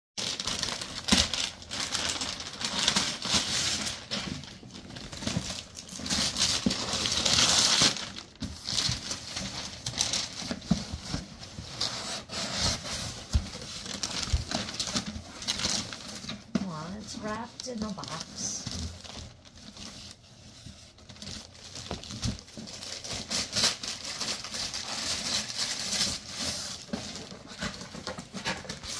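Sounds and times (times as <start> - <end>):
paper crumpling: 0.2 - 28.9
tissue paper rustling: 0.2 - 28.9
wrapping paper ripping: 0.2 - 28.9.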